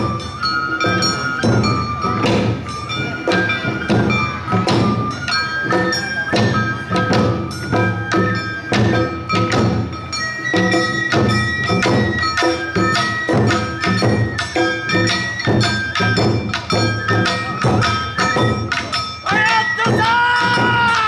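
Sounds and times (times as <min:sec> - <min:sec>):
festival drums: 0:00.0 - 0:21.0.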